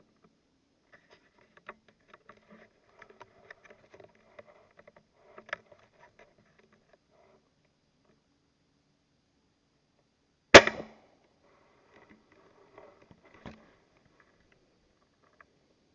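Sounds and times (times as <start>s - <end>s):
faint small clicks and rustles: 0.0s - 8.3s, 11.2s - 15.9s.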